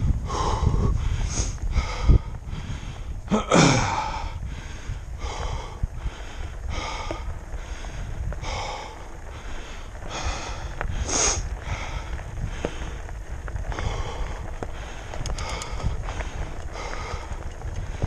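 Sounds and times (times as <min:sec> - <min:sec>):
person breathing hard and wheezing: 0:00.2 - 0:13.1, 0:13.7 - 0:18.0.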